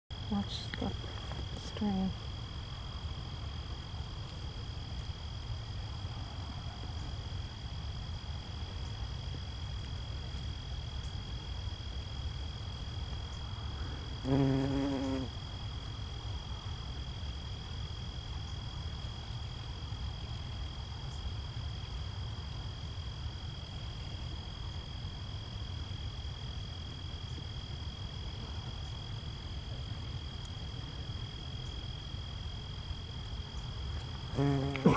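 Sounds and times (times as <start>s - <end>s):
insects trilling: 0.1s - 34.9s.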